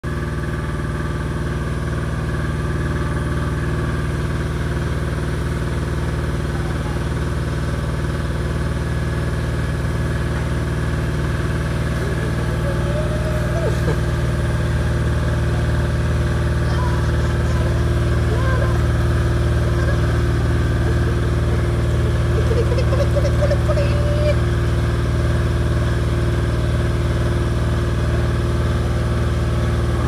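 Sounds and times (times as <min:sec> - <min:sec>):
motor droning: 0:00.0 - 0:30.0.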